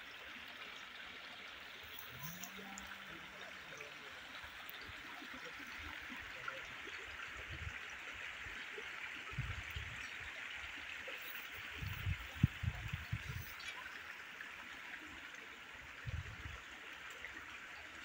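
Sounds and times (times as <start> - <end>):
stream trickling: 0.0 - 18.0.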